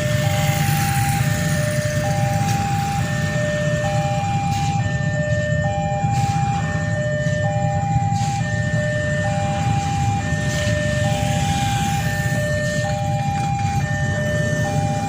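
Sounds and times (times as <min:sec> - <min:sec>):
level crossing two-tone alarm: 0:00.0 - 0:15.0
steady low rumble: 0:00.0 - 0:15.0.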